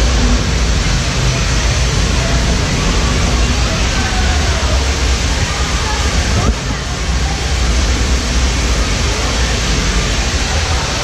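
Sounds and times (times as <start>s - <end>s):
rain pouring onto pool and foliage: 0.0s - 11.0s.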